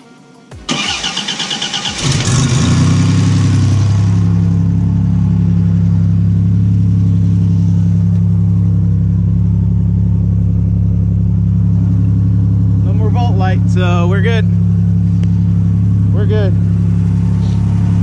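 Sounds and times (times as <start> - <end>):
car engine starting and idling: 0.2 - 18.0.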